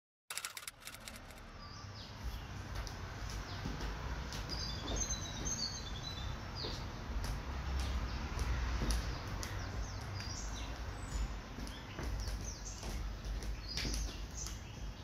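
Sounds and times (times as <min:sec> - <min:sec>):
birds chirping: 0:00.5 - 0:15.0.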